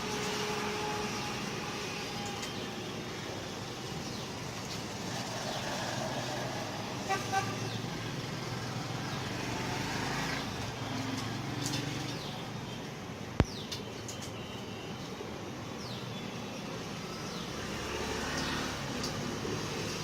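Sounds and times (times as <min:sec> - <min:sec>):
background traffic noise: 0:00.0 - 0:20.0.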